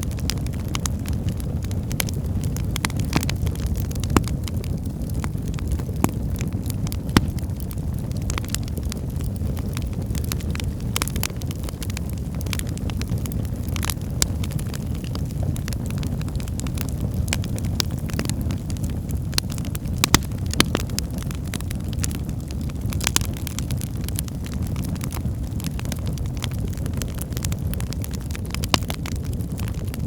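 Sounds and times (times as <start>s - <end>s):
fire flames rumbling: 0.0s - 30.0s
firewood crackling and popping: 0.0s - 30.0s.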